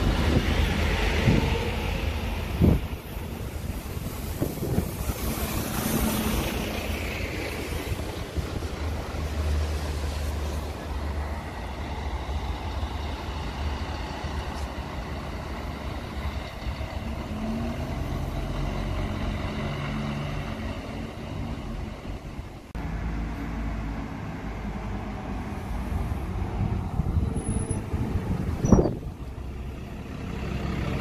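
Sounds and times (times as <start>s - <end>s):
low bus engine rumble: 0.0s - 31.0s.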